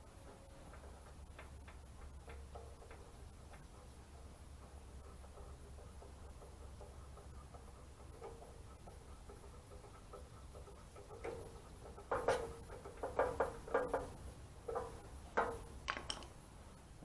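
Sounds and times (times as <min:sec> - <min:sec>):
light clicks and knocks of tools: 0:00.0 - 0:16.4.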